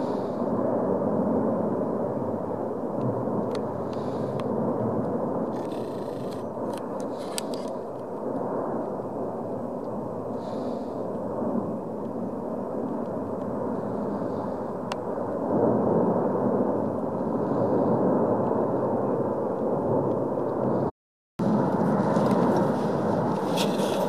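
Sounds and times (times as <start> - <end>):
volcanic vent rumbling: 0.0 - 24.0.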